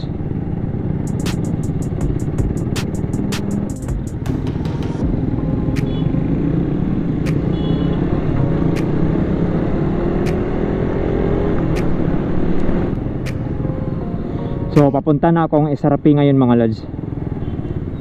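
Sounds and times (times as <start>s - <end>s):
motorcycle engine accelerating: 0.0s - 14.9s
road rumble: 0.0s - 18.0s.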